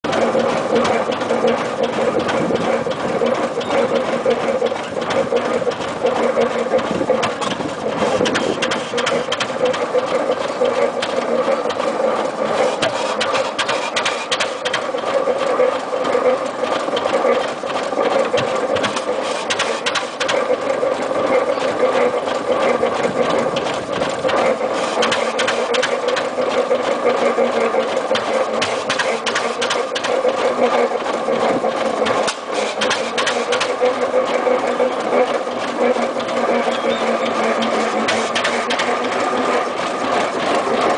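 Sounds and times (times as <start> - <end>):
tractor engine clattering: 0.0 - 40.9.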